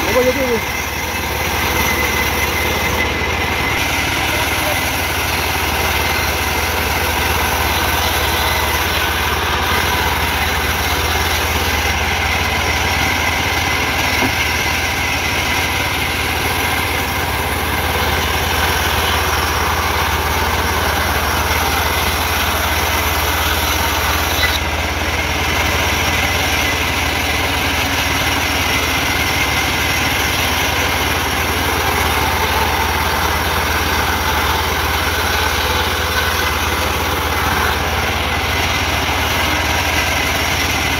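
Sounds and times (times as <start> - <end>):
sawmill machine drone: 0.0 - 40.9.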